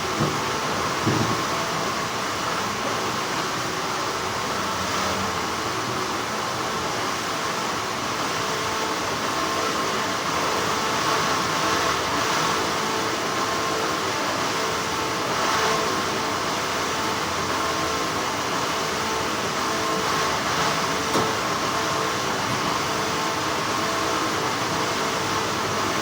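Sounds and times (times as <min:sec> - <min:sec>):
factory machinery hum: 0:00.0 - 0:26.0.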